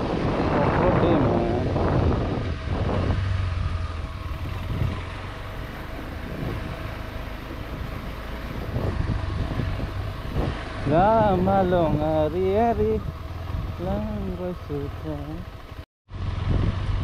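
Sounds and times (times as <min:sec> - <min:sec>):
motorcycle engine humming: 0:00.0 - 0:17.0.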